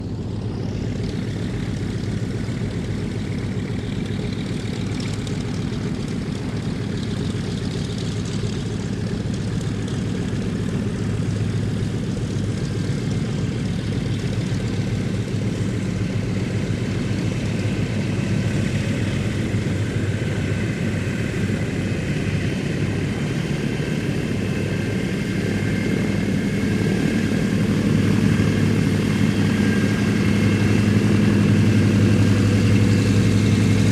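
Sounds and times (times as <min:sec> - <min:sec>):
propeller engines droning: 0:00.0 - 0:33.9.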